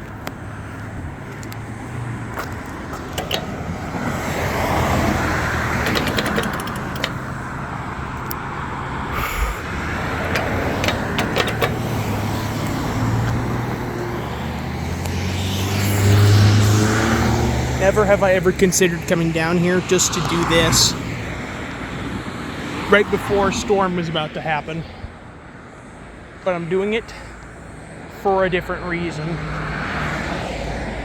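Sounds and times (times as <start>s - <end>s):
cars driving by: 0.0s - 31.0s.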